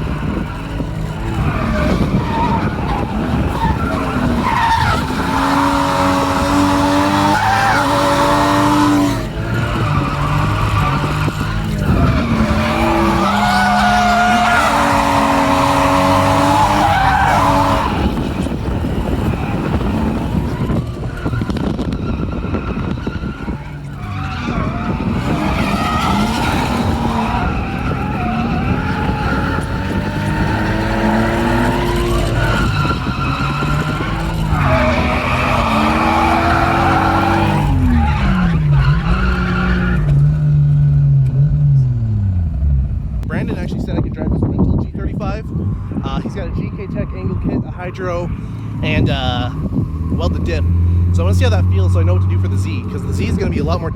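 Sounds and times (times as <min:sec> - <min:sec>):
car engine revving: 0:00.0 - 0:53.9
tyres skidding: 0:00.0 - 0:53.9.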